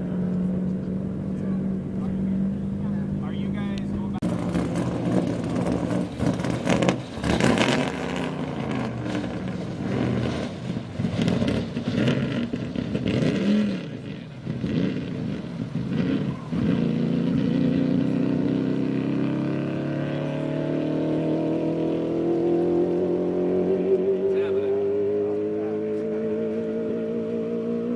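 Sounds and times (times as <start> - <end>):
racing engine revving with crackles: 0.0 - 27.9.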